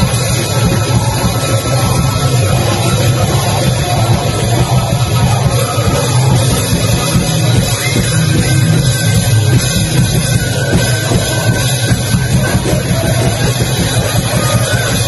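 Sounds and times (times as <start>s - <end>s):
live heavy rock band: 0.0s - 15.0s.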